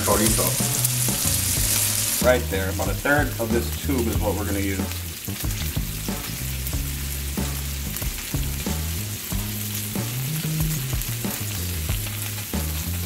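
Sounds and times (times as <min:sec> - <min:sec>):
background music with bass: 0:00.0 - 0:13.0
meat sizzling on a griddle: 0:00.0 - 0:13.0.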